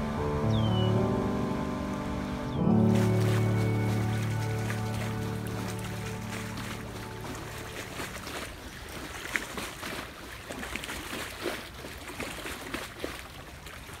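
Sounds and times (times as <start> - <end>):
small waves lapping against bank: 1.9 - 14.0.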